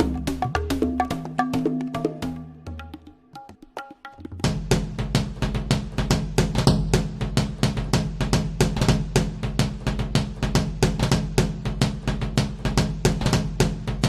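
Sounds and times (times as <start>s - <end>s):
fast drum beat with bass: 0.0s - 3.0s, 3.8s - 14.0s.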